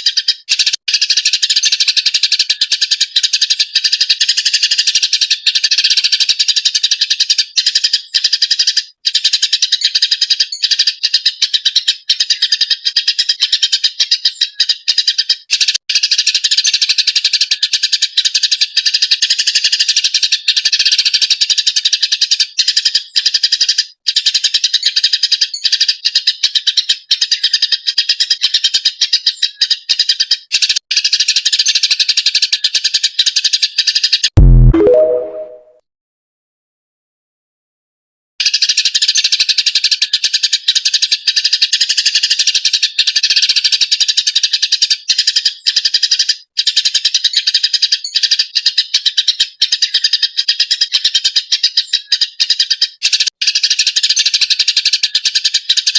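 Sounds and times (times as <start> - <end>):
sparrow chirping: 0.0 - 34.2, 38.4 - 55.9.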